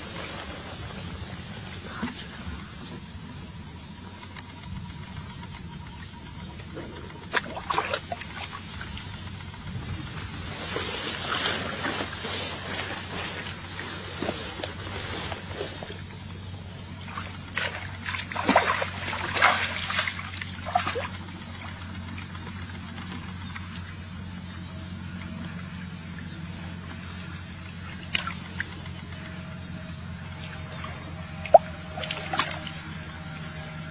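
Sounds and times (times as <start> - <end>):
pond water splashing: 0.0 - 24.6, 25.3 - 33.9.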